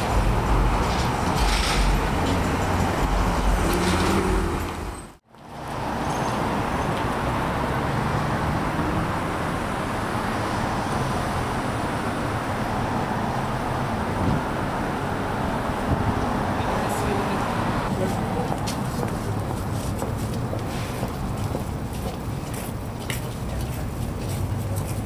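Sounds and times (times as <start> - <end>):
passing traffic rumble: 0.0 - 25.0.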